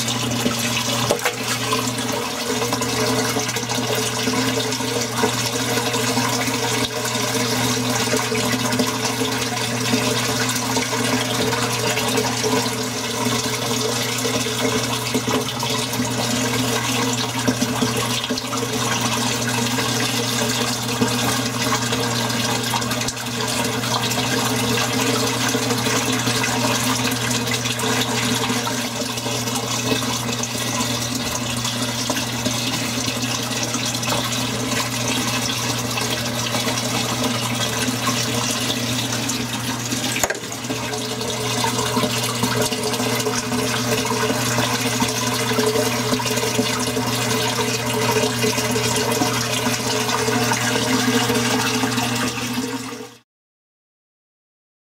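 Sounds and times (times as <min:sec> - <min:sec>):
aquarium water bubbling: 0:00.0 - 0:53.2
low pump hum: 0:00.0 - 0:53.2.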